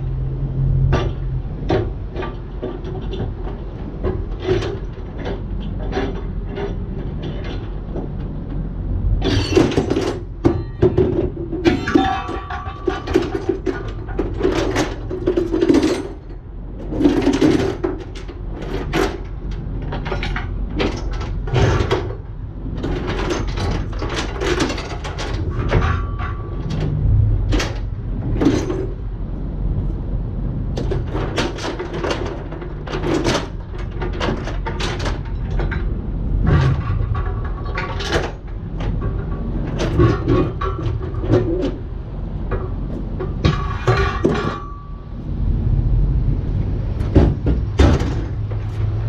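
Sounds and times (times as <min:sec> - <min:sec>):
knocks and clanks on steel: 0:00.0 - 0:45.5, 0:46.4 - 0:49.0
steady low rumble: 0:00.0 - 0:49.0.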